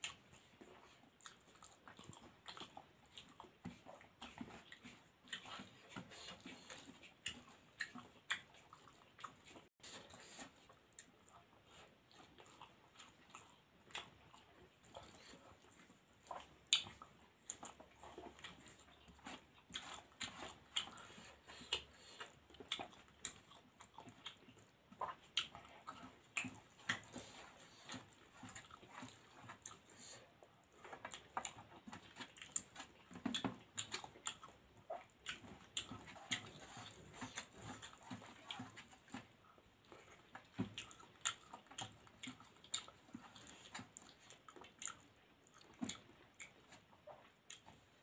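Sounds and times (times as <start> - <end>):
lip smacks and chewing: 0.0 - 48.0.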